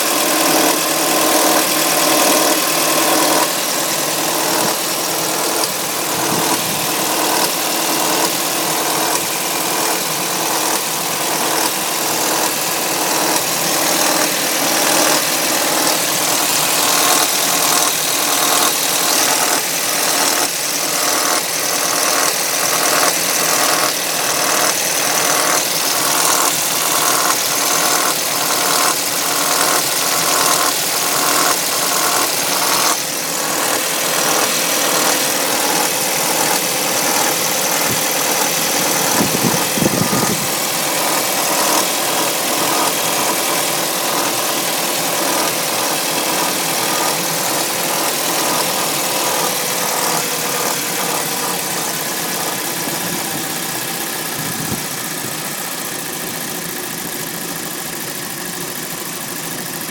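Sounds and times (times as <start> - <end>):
car engine idling with pulsing noise: 0.0 - 59.9.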